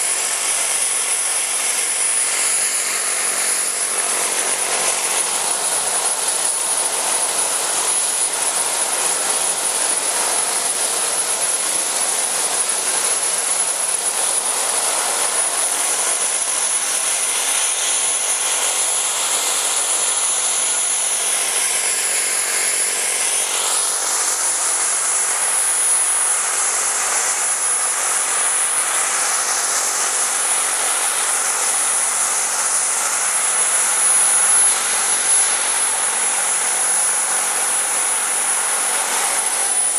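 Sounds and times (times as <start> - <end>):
model helicopter turbine whine: 0.0 - 39.9.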